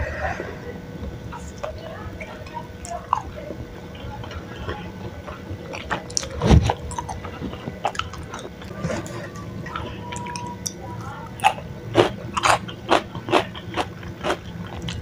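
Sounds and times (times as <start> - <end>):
person chewing with wet clicks: 1.5 - 15.0.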